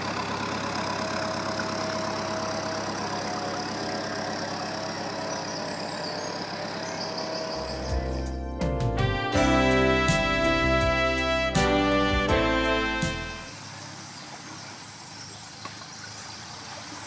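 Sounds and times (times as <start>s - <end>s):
diesel engine running: 0.0s - 13.9s.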